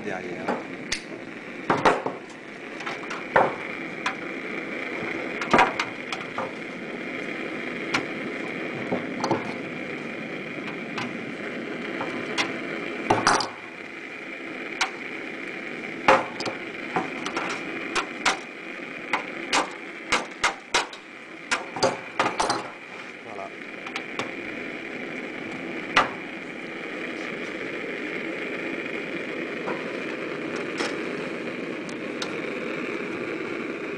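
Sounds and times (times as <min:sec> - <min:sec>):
steady background hum: 0:00.0 - 0:33.9.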